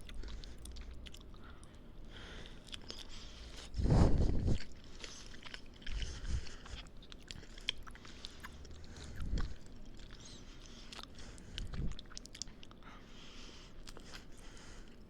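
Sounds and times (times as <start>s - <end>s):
wet chewing mouth sounds: 0.0s - 15.0s.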